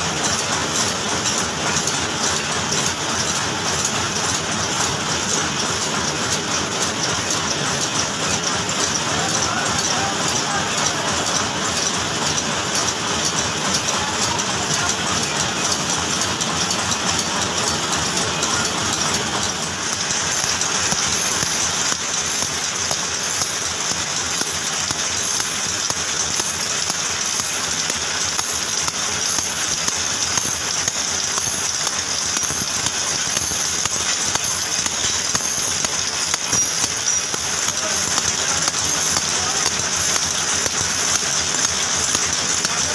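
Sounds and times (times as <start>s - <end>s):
machine metallic clatter: 0.0s - 42.9s
small screws rattling in drum: 0.0s - 42.9s.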